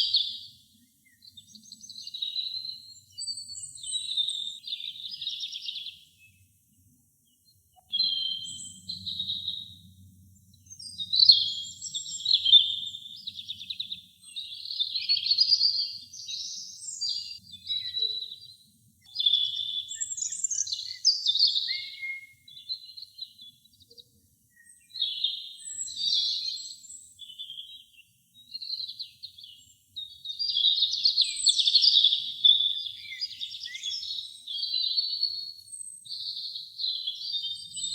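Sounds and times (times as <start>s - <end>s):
robin singing: 0.0s - 37.9s.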